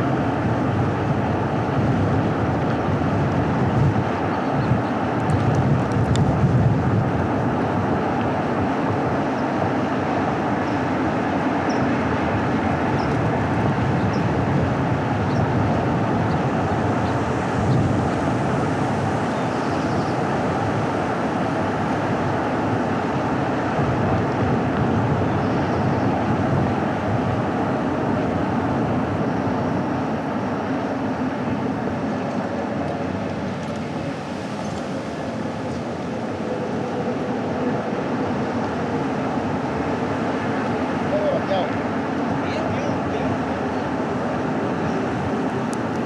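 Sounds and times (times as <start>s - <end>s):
road and tyre noise: 0.0s - 46.0s.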